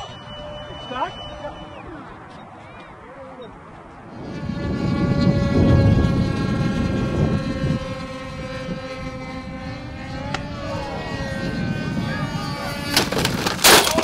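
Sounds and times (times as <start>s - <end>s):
model airplane engines buzzing: 0.0s - 14.0s.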